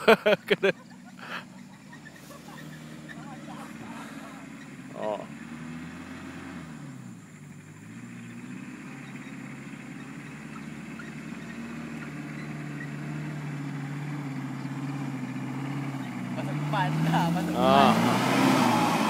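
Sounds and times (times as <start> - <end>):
off-road vehicle engine: 0.0 - 19.0.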